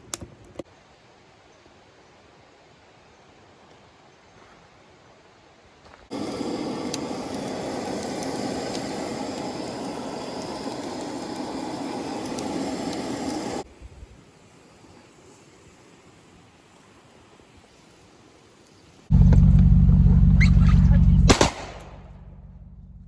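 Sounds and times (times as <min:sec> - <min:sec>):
faint hiss: 0:00.0 - 0:19.1.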